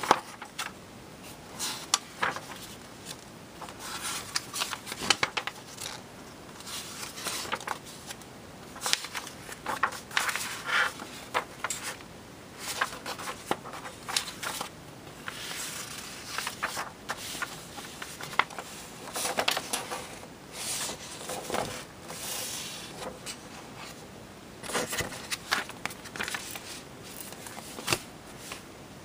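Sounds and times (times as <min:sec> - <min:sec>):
paper pages rustling: 0:00.0 - 0:24.0, 0:24.6 - 0:28.7.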